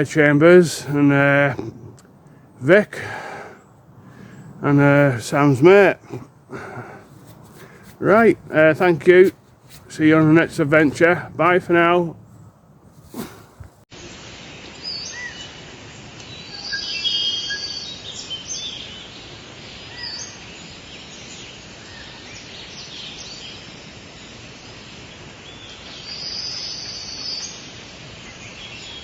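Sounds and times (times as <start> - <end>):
songbirds singing and chirping: 0.0 - 13.8, 14.4 - 29.0
background hiss: 0.0 - 29.0.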